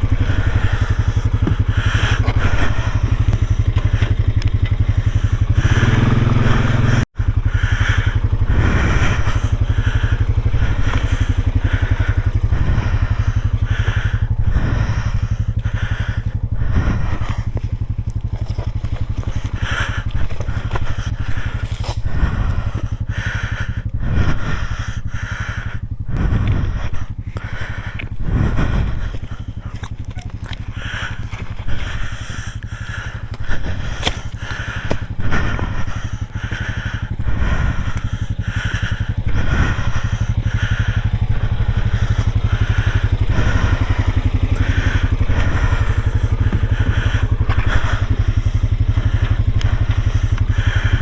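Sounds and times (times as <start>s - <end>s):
crunching and rattling over bumps: 0.0s - 51.0s
off-road vehicle engine running: 0.0s - 51.0s.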